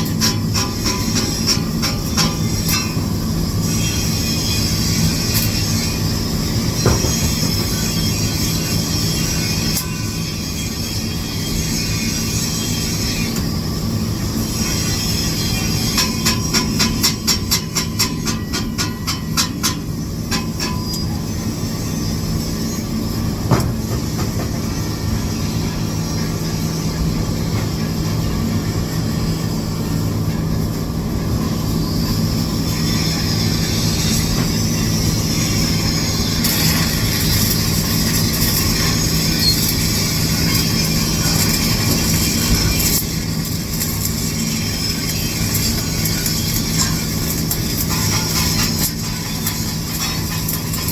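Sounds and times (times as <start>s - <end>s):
welding arc crackling and hissing: 0.0s - 50.9s
welding machine hum: 0.0s - 50.9s.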